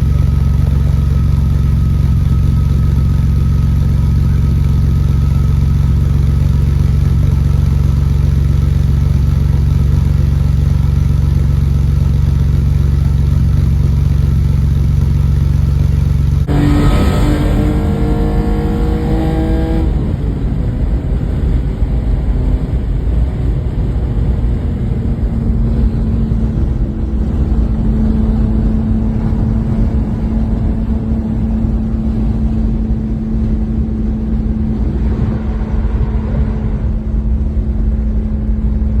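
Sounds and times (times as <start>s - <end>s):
car engine revving and idling: 0.0s - 39.0s.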